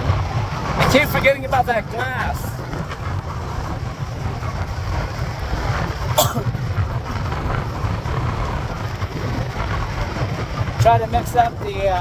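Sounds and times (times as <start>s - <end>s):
road rumble: 0.0s - 12.0s
wind buffeting microphone: 0.0s - 12.0s.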